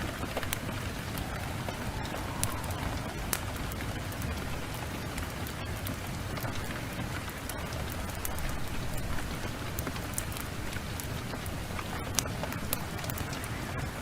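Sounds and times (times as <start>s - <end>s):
heavy rain pouring: 0.0s - 14.0s
wood fire crackling and popping: 0.0s - 14.0s.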